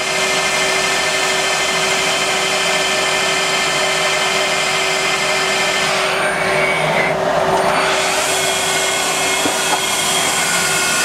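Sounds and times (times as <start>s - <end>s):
lathe machine whine: 0.0s - 11.0s.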